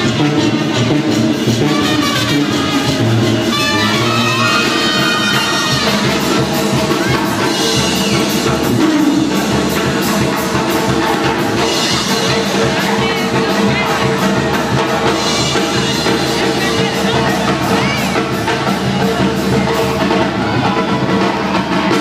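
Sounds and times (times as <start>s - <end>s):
loud dance music with brass and drums: 0.0s - 22.0s.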